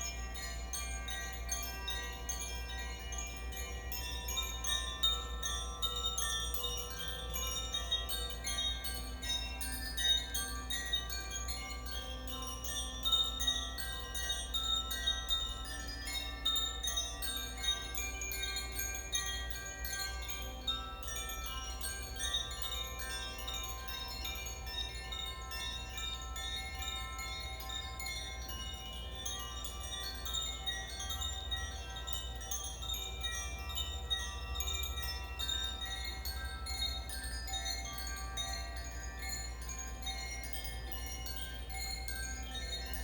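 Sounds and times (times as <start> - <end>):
wind chimes ringing: 0.0 - 43.0.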